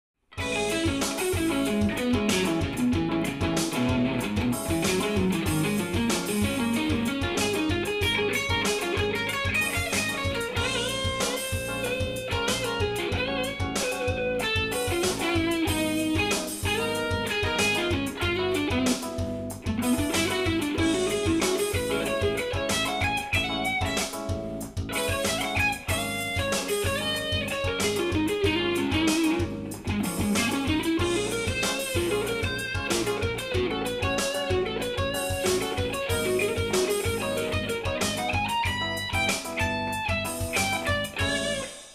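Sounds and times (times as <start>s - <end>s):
electric guitar fast lines: 0.4s - 19.1s, 25.0s - 41.9s.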